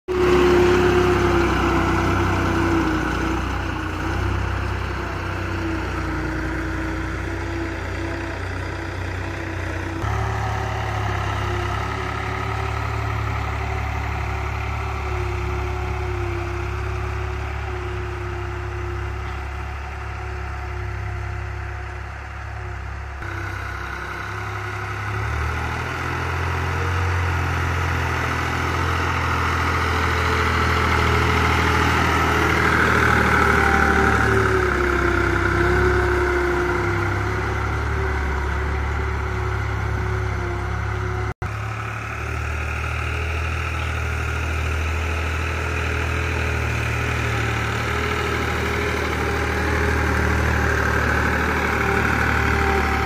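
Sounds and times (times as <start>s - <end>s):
tractor diesel engine running: 0.1s - 53.0s.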